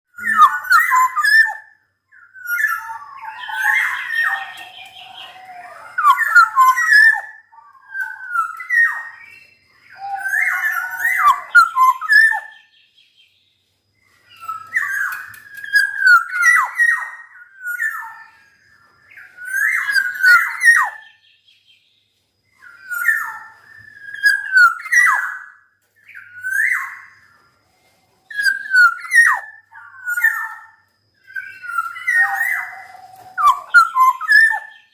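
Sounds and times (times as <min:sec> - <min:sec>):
bird whistling song: 0:00.1 - 0:34.9.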